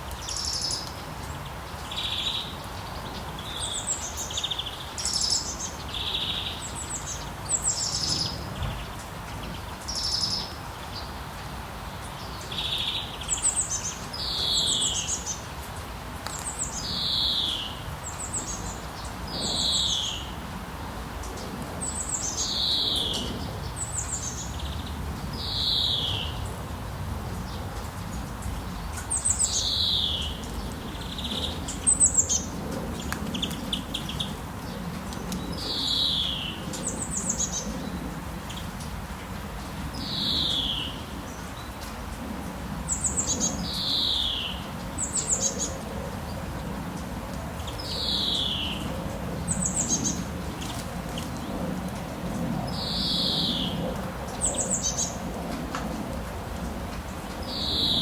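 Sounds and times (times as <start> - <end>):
songbird singing: 0.0 - 20.5, 21.3 - 26.6, 27.2 - 42.0, 42.7 - 55.4, 57.2 - 58.0.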